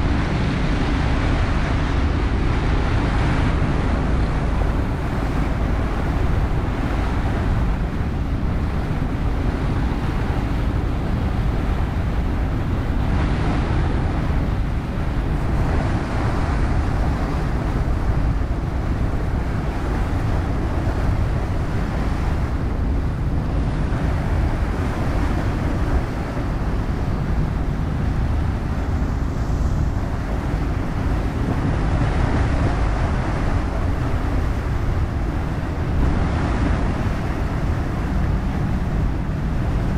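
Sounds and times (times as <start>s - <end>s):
motorboat engine drone: 0.0s - 39.9s
water rushing: 0.0s - 39.9s
wind buffeting microphone: 0.0s - 39.9s.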